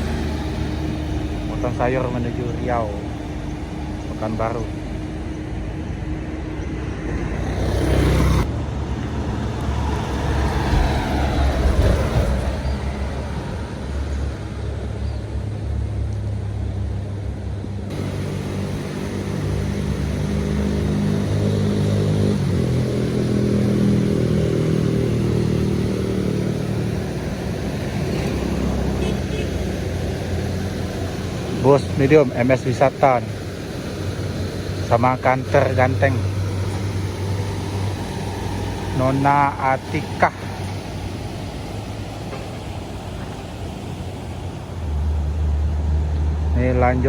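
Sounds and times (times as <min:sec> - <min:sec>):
heavy diesel vehicles passing: 0:00.0 - 0:47.0.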